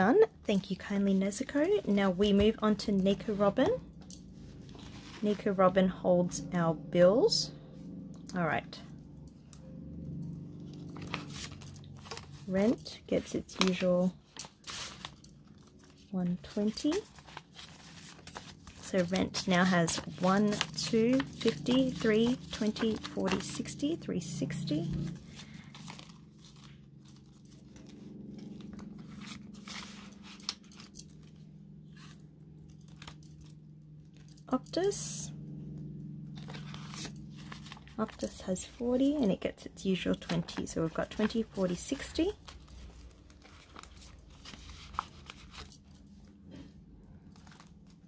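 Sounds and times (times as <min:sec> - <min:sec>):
banknotes and plastic crinkling: 0:00.0 - 0:05.7, 0:10.7 - 0:35.1, 0:36.4 - 0:48.0
faint low hum: 0:00.0 - 0:48.0
plastic pages rustling: 0:00.5 - 0:05.6, 0:10.6 - 0:24.0, 0:24.6 - 0:34.9, 0:36.4 - 0:48.0.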